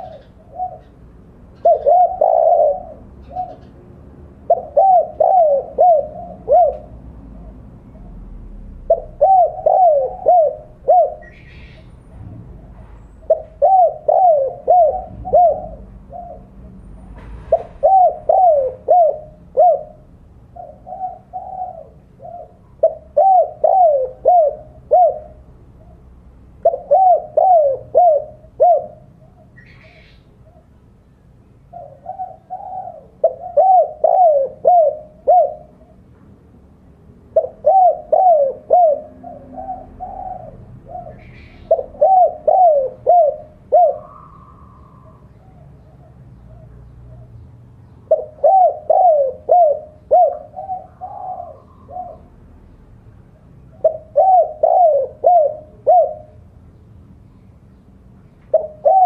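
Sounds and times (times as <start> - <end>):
dove cooing: 0.0 - 11.9, 12.6 - 30.8, 31.6 - 36.1, 37.3 - 52.7, 53.4 - 56.5, 58.5 - 59.0.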